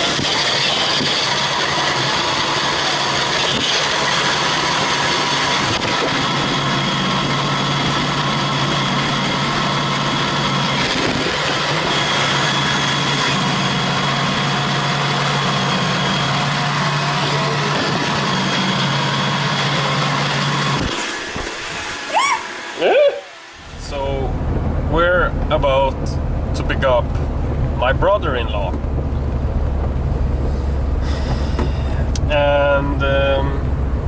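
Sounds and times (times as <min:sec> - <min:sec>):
engine running steadily: 0:00.0 - 0:34.0
low hum: 0:00.0 - 0:34.0
rushing noise: 0:00.0 - 0:34.0.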